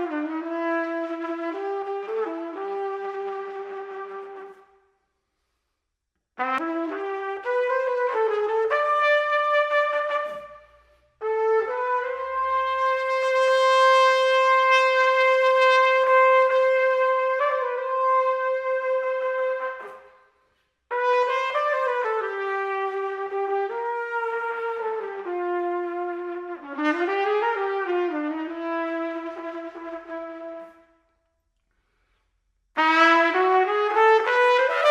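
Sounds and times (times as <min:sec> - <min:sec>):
slow solo brass melody: 0:00.0 - 0:04.8, 0:06.4 - 0:20.2, 0:20.9 - 0:31.2, 0:32.8 - 0:34.9.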